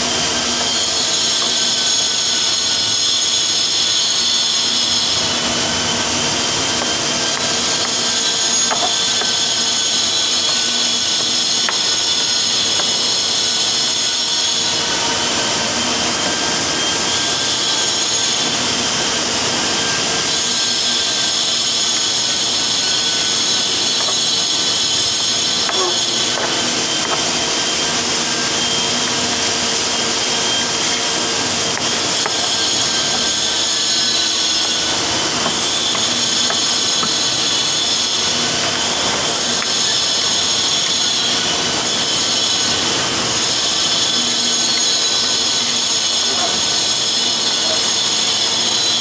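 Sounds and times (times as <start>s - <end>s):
machine motor whirring with whine: 0.0s - 49.0s.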